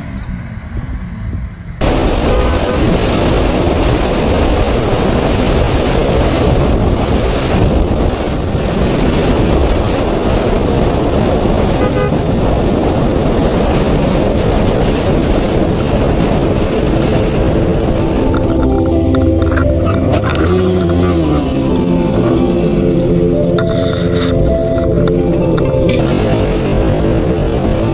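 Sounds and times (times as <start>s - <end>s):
motorcycle engine and road noise: 0.0s - 27.9s
wind rush on microphone: 0.0s - 27.9s.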